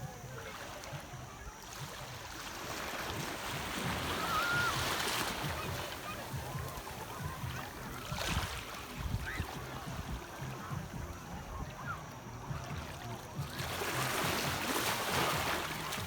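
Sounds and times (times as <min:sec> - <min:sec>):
waves washing on beach: 0:00.0 - 0:16.0.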